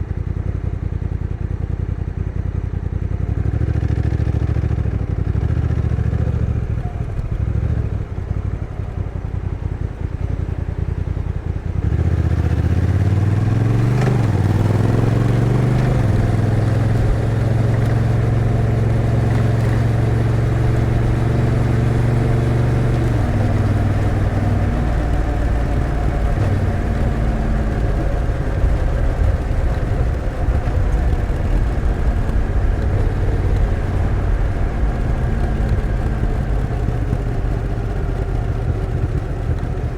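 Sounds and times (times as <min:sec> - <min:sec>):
motorcycle engine revving: 0:03.2 - 0:39.9
gear change: 0:06.6 - 0:39.9.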